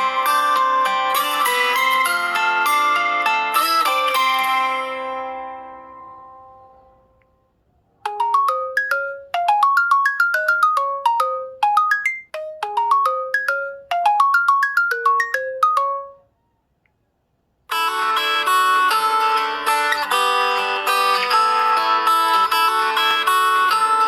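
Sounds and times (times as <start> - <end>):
phone ringtone: 0.0 - 6.6, 8.1 - 16.3, 17.7 - 24.0.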